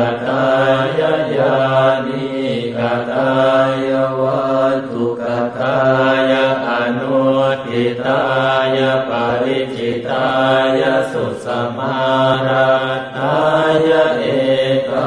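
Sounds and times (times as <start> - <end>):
man chanting in monotone: 0.0 - 15.0.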